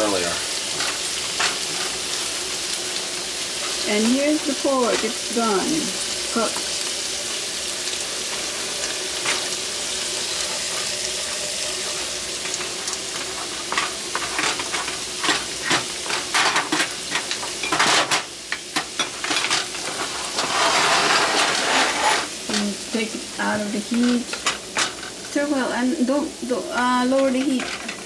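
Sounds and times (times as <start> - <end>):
utensil scraping a pan: 0.0 - 2.5, 3.4 - 6.9, 7.9 - 22.8, 23.4 - 25.5, 26.6 - 28.0
food sizzling in a frying pan: 0.0 - 28.0.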